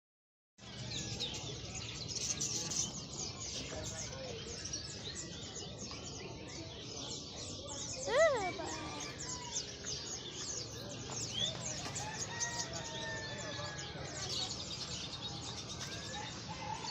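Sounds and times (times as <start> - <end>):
songbirds chirping: 0.6 - 16.9.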